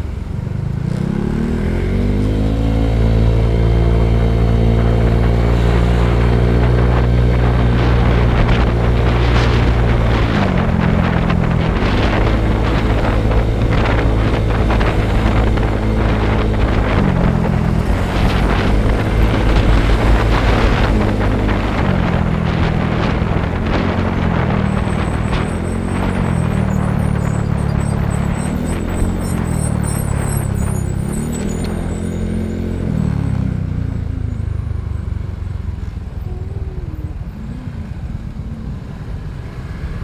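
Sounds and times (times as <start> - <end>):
motorcycle engine running: 0.0 - 40.0
wind noise on microphone: 1.0 - 34.3.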